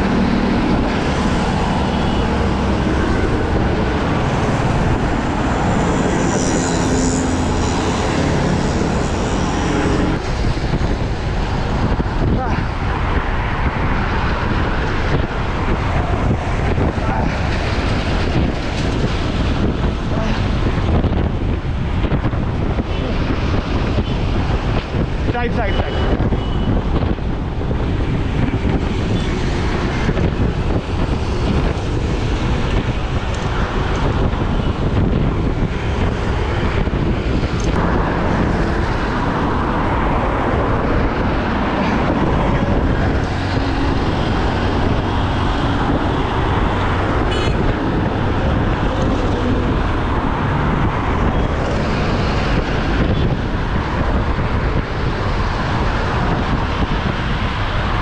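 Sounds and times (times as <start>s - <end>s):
traffic road noise: 0.0s - 58.0s
wind rushing over microphone: 0.0s - 58.0s.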